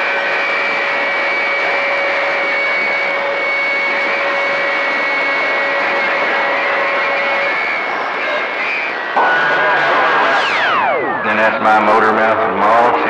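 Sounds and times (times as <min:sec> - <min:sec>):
faint steady whistling tones: 0:00.0 - 0:13.0
radio receiver hiss: 0:01.6 - 0:13.0.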